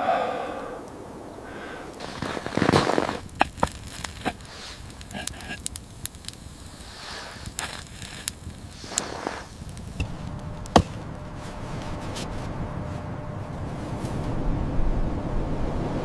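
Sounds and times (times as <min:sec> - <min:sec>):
wood fire crackling: 0:00.6 - 0:14.4.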